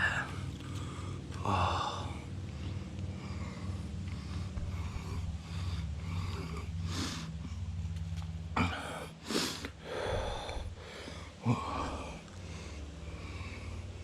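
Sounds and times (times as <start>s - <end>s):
person breathing heavily: 0.0s - 7.9s, 8.5s - 14.0s
low steady hum: 0.0s - 14.0s
sniffing: 1.8s - 8.0s, 8.6s - 14.0s.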